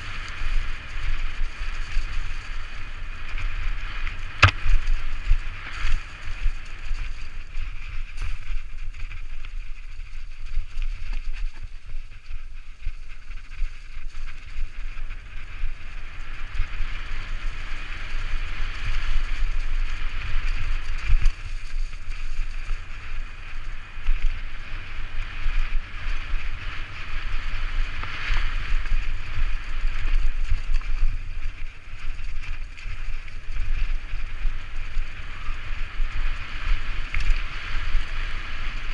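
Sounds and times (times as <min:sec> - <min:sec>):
steady low rumble: 0:00.0 - 0:38.9
tyres rushing on leaves and dirt: 0:00.0 - 0:38.9
wind buffeting microphone: 0:00.0 - 0:38.9.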